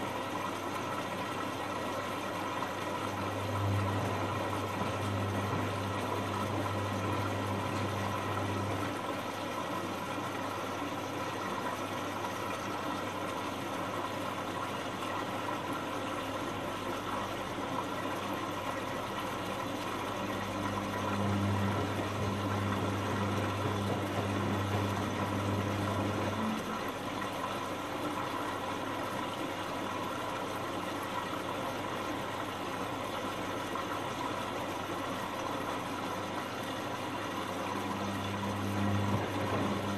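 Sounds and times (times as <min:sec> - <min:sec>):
washing machine drum motor hum: 0:00.0 - 0:39.9
water sloshing in drum: 0:00.0 - 0:39.9.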